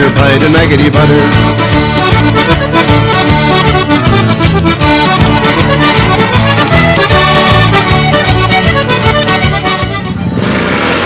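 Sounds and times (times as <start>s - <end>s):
accordion-led folk music: 0.0s - 10.5s.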